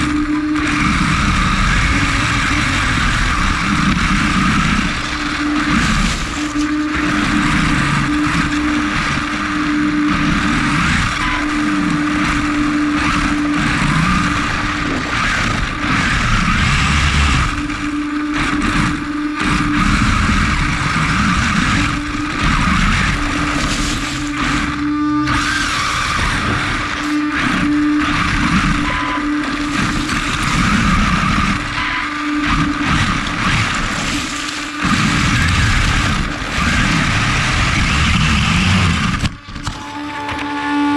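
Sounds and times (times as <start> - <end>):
electric motor whining: 0.0 - 40.9
steady tone: 0.0 - 40.9.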